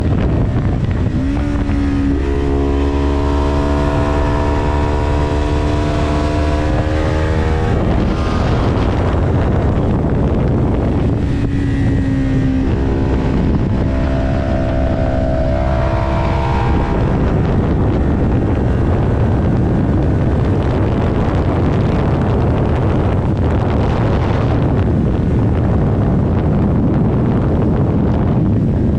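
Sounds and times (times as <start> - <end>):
motorcycle engine revving: 0.0 - 28.3
wind on microphone: 0.0 - 28.9.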